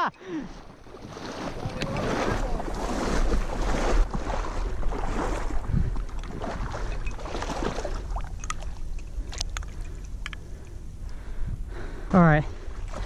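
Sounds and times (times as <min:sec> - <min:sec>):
wading through shallow water: 0:00.0 - 0:13.0
small water splashes: 0:00.2 - 0:10.6, 0:12.6 - 0:13.0.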